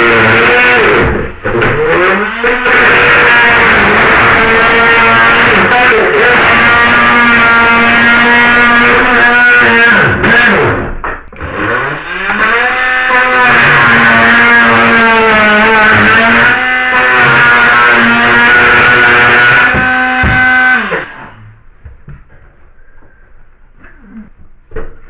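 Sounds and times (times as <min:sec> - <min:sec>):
drill motor whining: 0:00.0 - 0:21.5.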